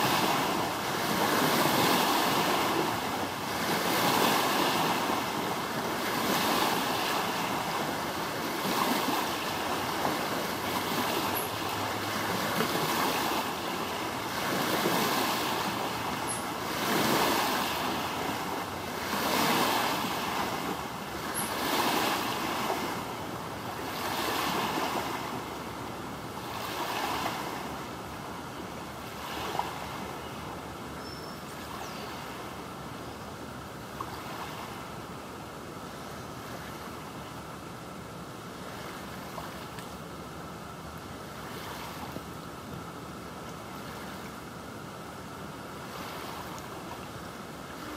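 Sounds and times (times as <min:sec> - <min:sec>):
waves washing and lapping: 0:00.0 - 0:47.9.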